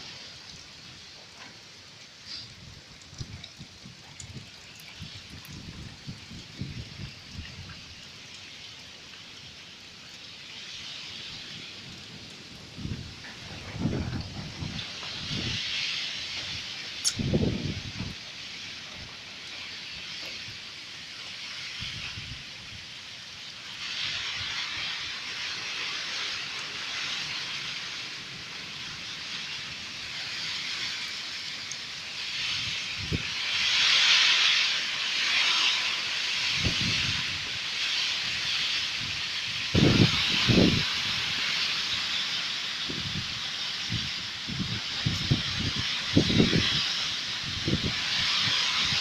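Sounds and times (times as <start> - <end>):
gusting wind: 0.0 - 49.0
heavy rain: 0.0 - 49.0.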